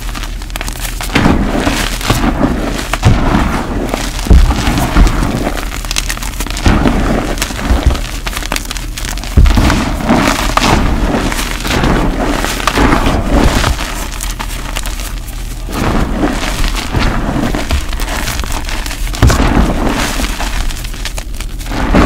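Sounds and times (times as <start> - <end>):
chalk being crushed by hands: 0.0 - 22.0.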